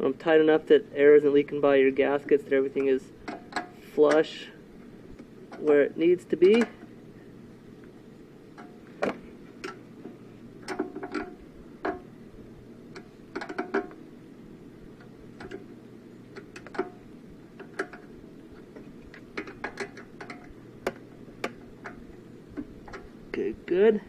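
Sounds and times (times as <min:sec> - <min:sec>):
low steady background hum: 0:00.0 - 0:24.0.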